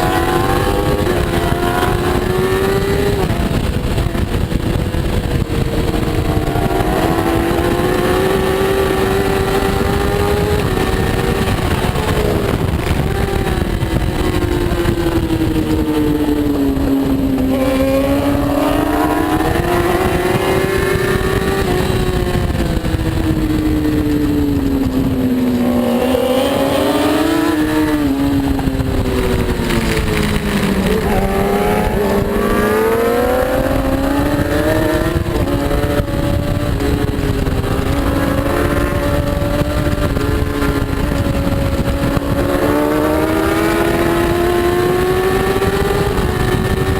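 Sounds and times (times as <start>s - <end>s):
racing motorcycle engine revving: 0.0s - 46.9s
steady rush of noise: 0.0s - 46.9s.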